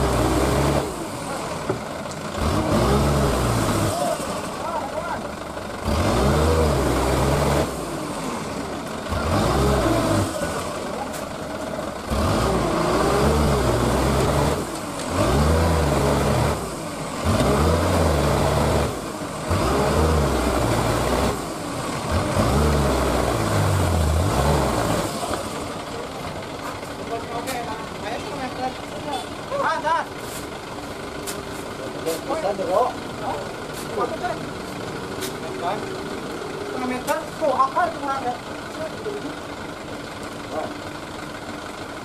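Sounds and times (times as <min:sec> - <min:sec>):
diesel truck engine revving: 0:00.0 - 0:42.0.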